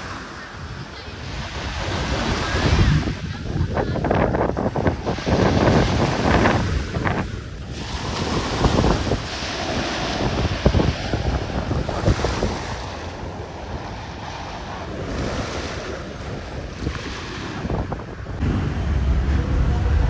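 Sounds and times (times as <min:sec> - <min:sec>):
small waves breaking on beach: 0:00.0 - 0:18.4
wind on microphone: 0:00.0 - 0:20.0.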